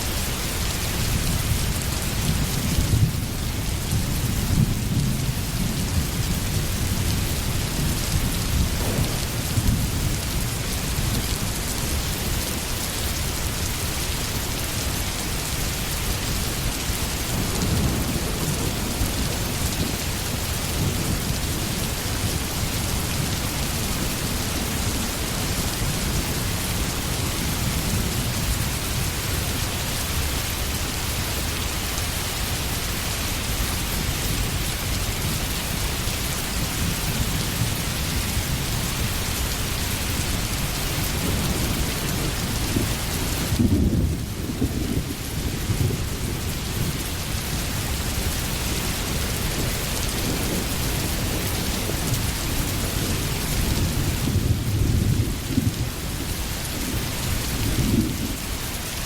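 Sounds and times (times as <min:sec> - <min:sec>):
low rolling thunder: 0:00.0 - 0:13.6, 0:14.3 - 0:31.5, 0:32.4 - 0:59.0
steady rain: 0:00.0 - 0:59.0.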